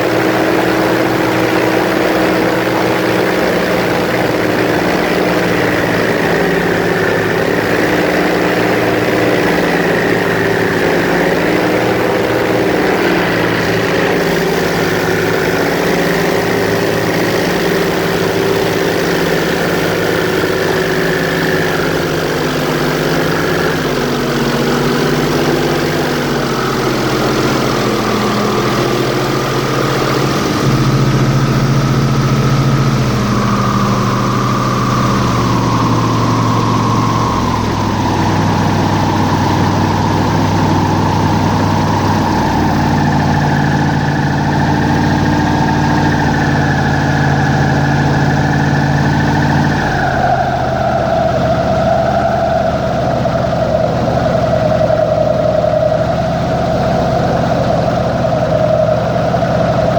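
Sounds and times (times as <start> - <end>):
airboat engine and propeller: 0.0 - 59.9.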